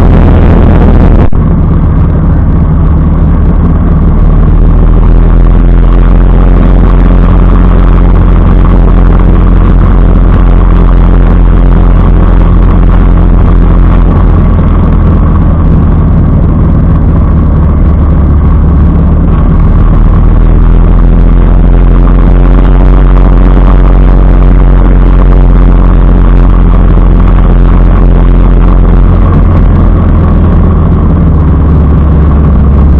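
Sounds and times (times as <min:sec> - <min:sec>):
motorcycle engine cruising: 0:00.0 - 0:32.9.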